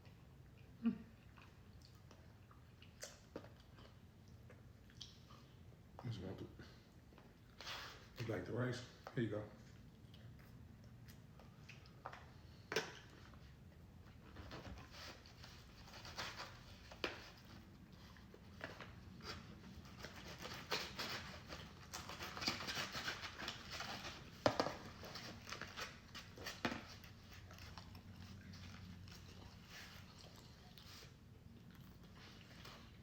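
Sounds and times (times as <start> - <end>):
people chewing: 0.1 - 5.7, 9.6 - 15.2, 16.0 - 33.0.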